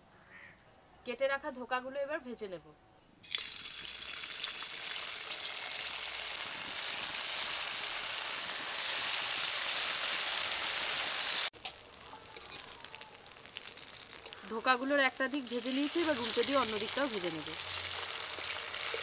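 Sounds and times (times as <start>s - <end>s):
hot oil sizzling: 3.2s - 19.0s.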